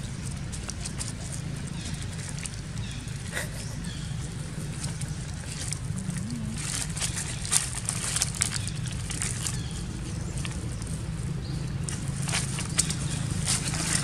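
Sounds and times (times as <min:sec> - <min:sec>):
dry leaves crackling and rustling: 0:00.0 - 0:14.0
low background rumble: 0:00.0 - 0:14.0.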